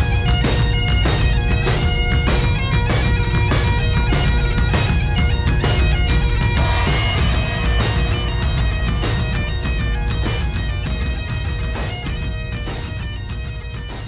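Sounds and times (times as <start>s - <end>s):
bagpipes playing: 0.0s - 14.0s
drum beat: 0.0s - 14.0s.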